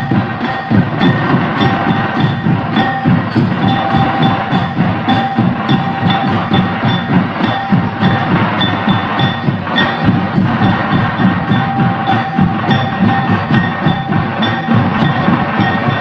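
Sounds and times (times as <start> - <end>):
fast drum beat: 0.0 - 16.0
high held melodic tone: 0.0 - 16.0.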